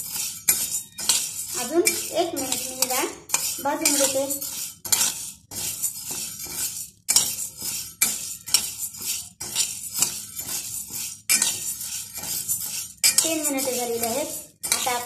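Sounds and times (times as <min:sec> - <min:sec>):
dry lentils rattling in steel pan: 0:00.0 - 0:15.0.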